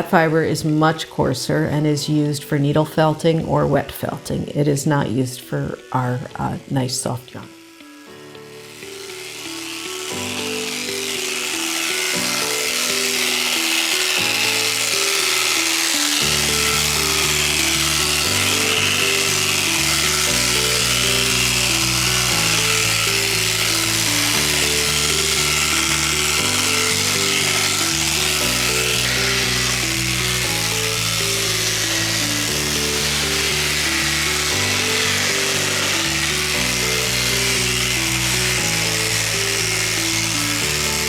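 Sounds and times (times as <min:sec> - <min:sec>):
electric clippers buzzing: 0:00.0 - 0:41.0.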